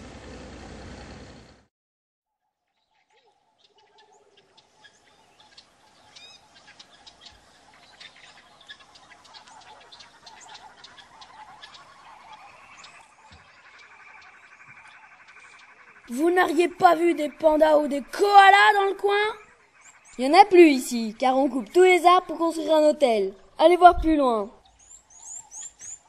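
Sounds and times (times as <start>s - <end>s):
birds chirping and calling: 2.8s - 26.0s.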